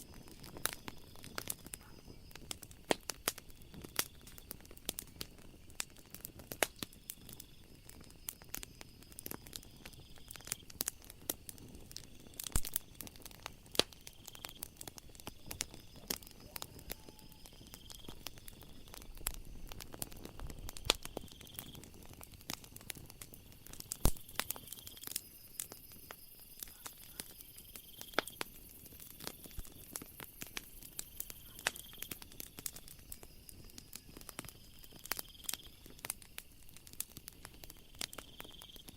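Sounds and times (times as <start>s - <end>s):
night insects chirping: 0.0s - 38.9s
wood fire crackling and popping: 0.0s - 38.9s.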